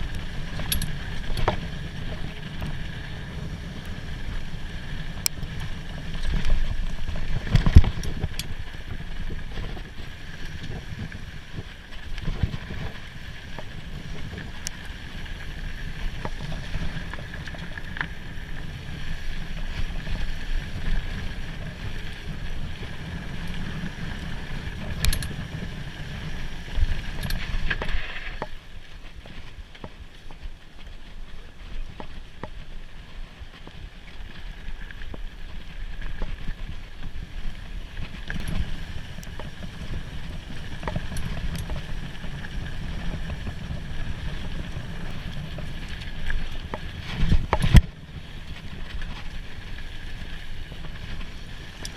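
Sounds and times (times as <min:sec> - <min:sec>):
wind on microphone: 0:00.0 - 0:30.6, 0:31.2 - 0:51.9
bike knocking and rattling: 0:00.0 - 0:51.9
bike tyres rolling on dirt: 0:00.0 - 0:51.9.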